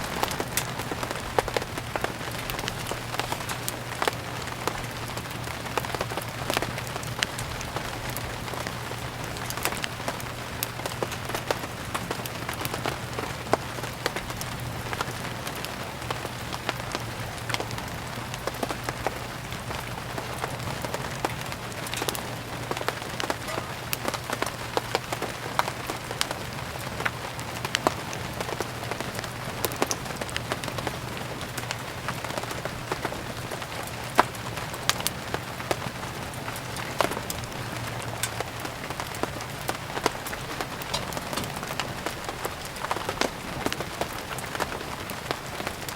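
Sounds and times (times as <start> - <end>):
firewood crackling and popping: 0.0 - 45.9
steady rain: 0.0 - 45.9.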